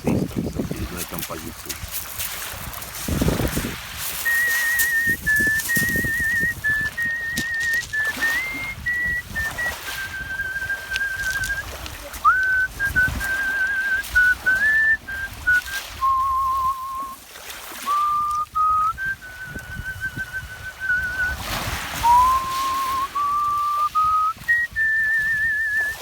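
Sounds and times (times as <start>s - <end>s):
person whistling a melody: 4.1s - 17.2s, 17.8s - 26.0s.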